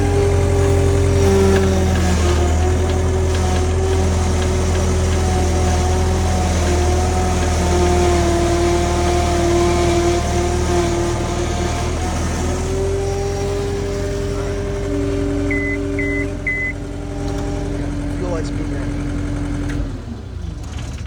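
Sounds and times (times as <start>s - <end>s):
diesel engine drone: 0.0s - 21.0s.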